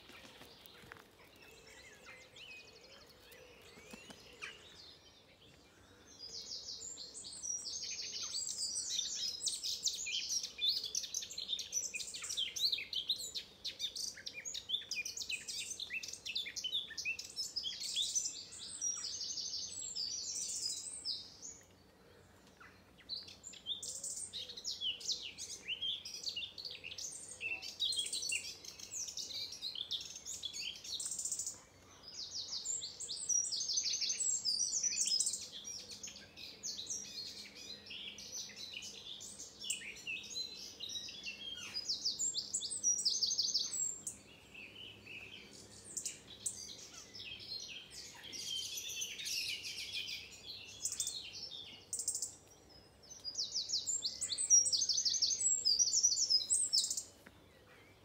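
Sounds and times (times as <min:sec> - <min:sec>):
songbirds dawn chorus: 0:00.0 - 0:58.0.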